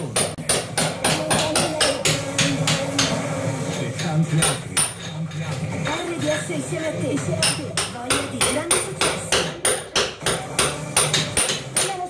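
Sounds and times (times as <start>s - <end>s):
hammer and chisel chipping plaster: 0.0s - 12.0s.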